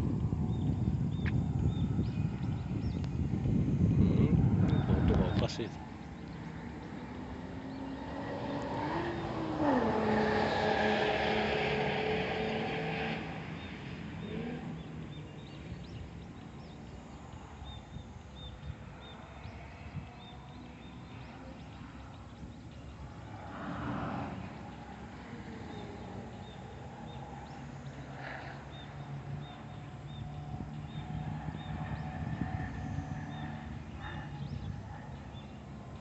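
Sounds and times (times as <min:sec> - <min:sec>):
car driving past: 0:03.3 - 0:36.0.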